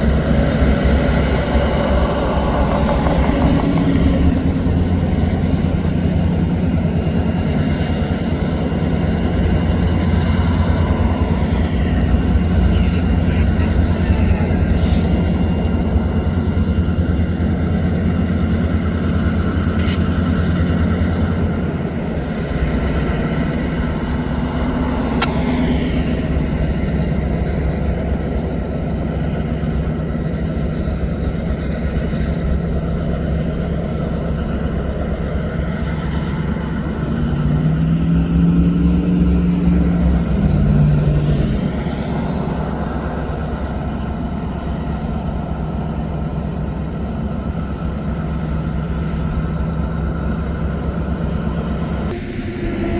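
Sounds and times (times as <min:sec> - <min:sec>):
heavier engine tone: 0:00.0 - 0:52.9
vehicle engine rumbling: 0:00.0 - 0:52.9.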